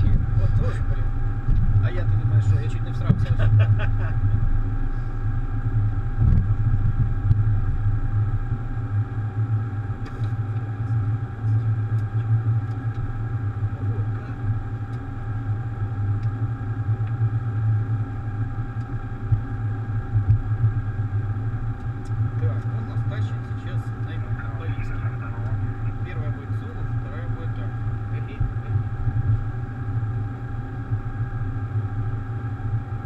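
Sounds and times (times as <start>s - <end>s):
aircraft cockpit drone: 0.0s - 33.0s.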